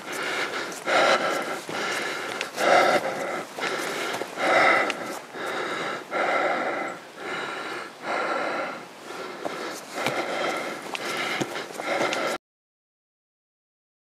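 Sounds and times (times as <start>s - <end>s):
person breathing while walking: 0.0s - 12.4s.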